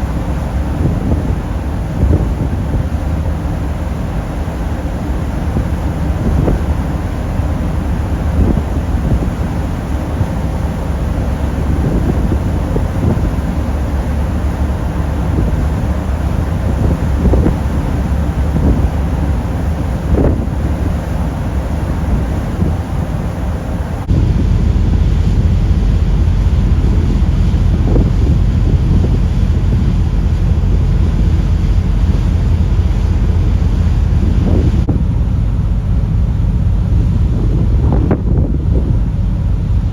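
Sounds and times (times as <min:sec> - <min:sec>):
ferry engine rumble: 0:00.0 - 0:39.9
wind buffeting microphone: 0:00.0 - 0:39.9.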